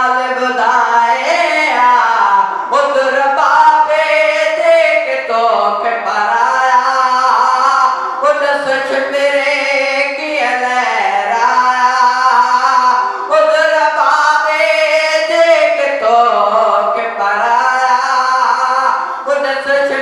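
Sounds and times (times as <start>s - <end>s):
man singing a mourning lament: 0.0s - 20.0s.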